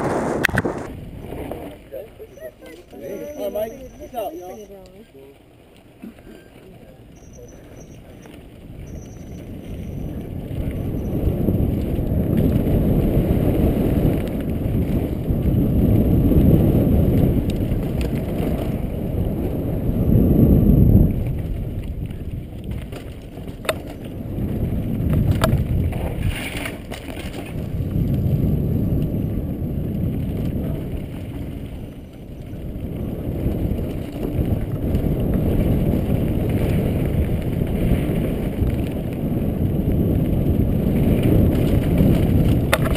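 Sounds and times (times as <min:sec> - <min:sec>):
bike tyres rumbling over dirt: 0:00.0 - 0:42.9
wind buffeting microphone: 0:00.0 - 0:42.9.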